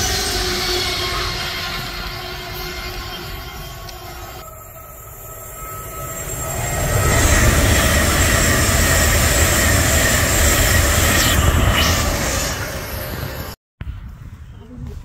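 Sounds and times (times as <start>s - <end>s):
train passing rumble: 0.0s - 14.1s.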